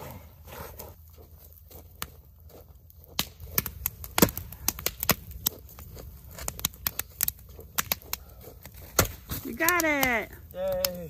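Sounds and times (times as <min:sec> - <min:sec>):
campfire crackling and popping: 0:00.4 - 0:11.0.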